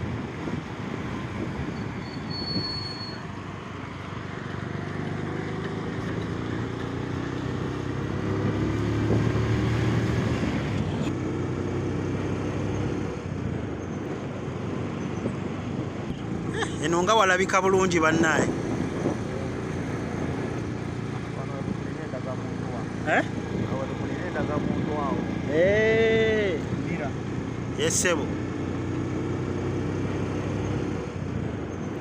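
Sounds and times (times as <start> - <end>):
wind and road noise: 0.0 - 32.0.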